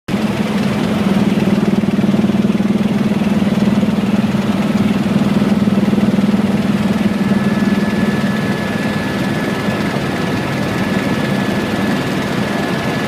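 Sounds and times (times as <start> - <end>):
helicopter rotor and engine: 0.1 - 13.0.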